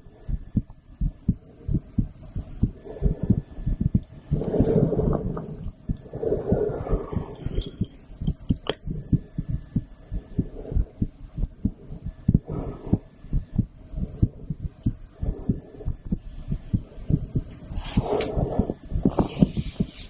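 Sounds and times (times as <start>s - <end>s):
heartbeat through a stethoscope: 0.0s - 20.0s.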